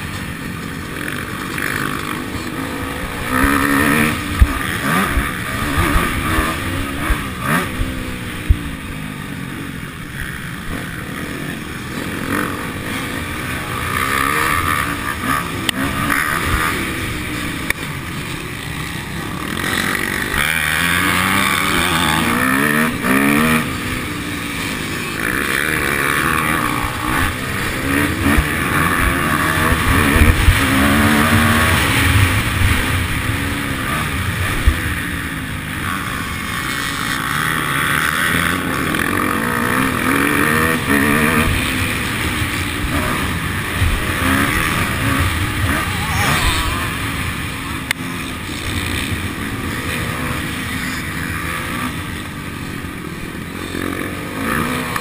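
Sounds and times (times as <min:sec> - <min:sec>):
motocross bike engine racing: 0:00.0 - 0:55.0.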